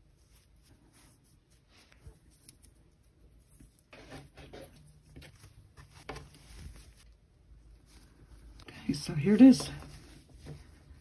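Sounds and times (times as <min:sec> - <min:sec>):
rustling of sweater: 0:00.0 - 0:11.0.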